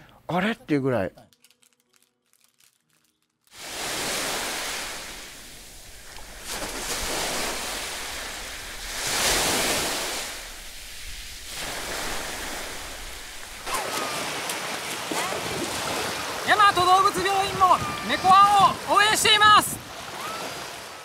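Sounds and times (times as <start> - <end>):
sea surf washing onto beach: 3.5 - 21.0
water splashing from wading: 3.6 - 21.0.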